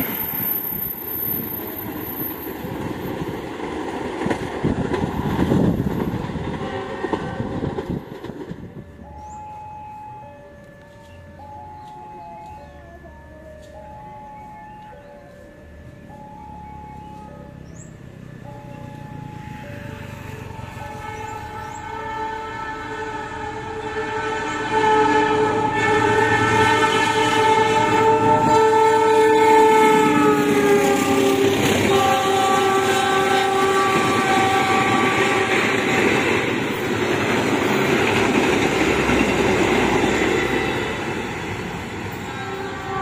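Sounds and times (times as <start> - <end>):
carriages rumbling and clattering: 0.0 - 22.3, 25.4 - 43.0
locomotive horn: 5.2 - 8.1, 9.0 - 17.6, 18.3 - 37.0, 37.6 - 43.0.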